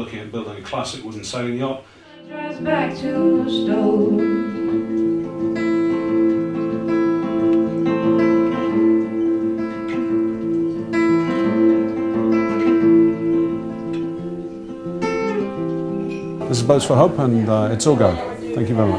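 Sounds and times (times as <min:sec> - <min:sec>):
acoustic guitar strummed chords: 0:02.1 - 0:18.9.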